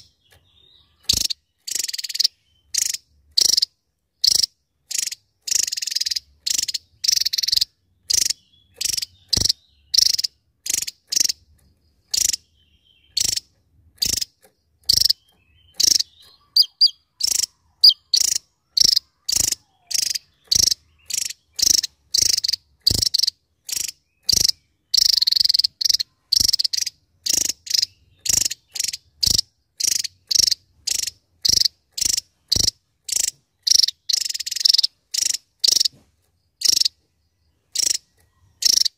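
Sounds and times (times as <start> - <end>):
bird song of sharp high notes: 0.0 - 38.9.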